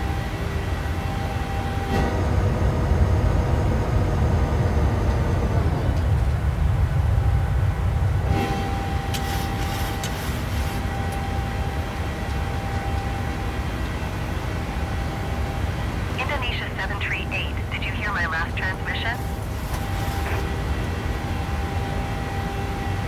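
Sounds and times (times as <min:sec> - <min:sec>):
airplane cabin engine rumble: 0:02.2 - 0:23.0.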